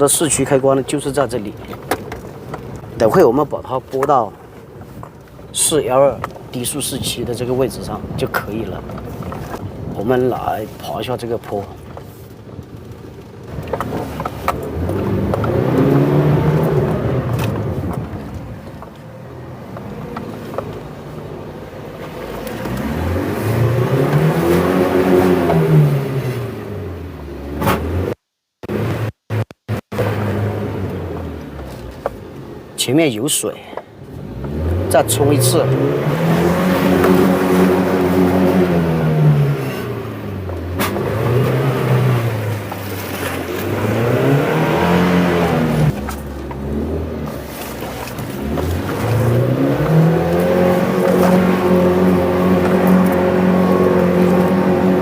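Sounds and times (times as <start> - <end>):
suv engine pulling uphill: 0.0 - 55.0.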